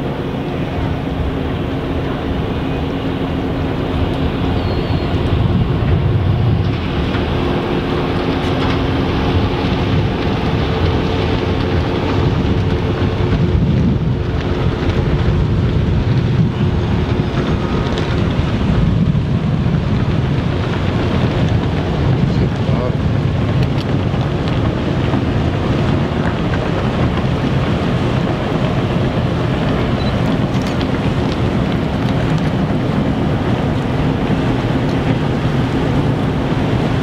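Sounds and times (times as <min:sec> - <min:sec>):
ship machinery rumble: 0:00.0 - 0:37.0
steady hum tones: 0:00.0 - 0:37.0
wind buffeting microphone: 0:00.0 - 0:37.0.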